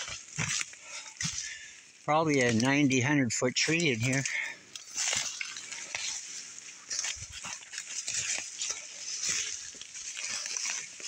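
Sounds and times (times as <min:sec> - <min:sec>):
twigs snapping: 0:00.0 - 0:01.7, 0:03.7 - 0:11.0
brush and leaves rustling: 0:00.0 - 0:11.0.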